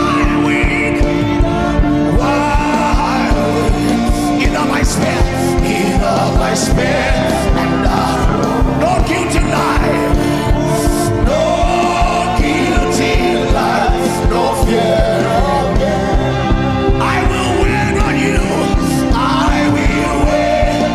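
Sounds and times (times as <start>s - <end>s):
keyboard chords: 0.0s - 20.9s
person singing: 0.0s - 20.9s.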